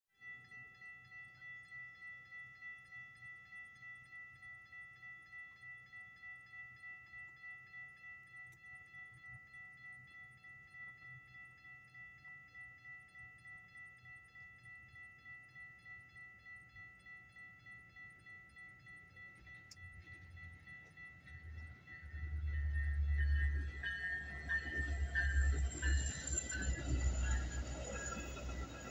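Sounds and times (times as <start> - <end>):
crossing warning bell ringing: 0.2 - 28.9.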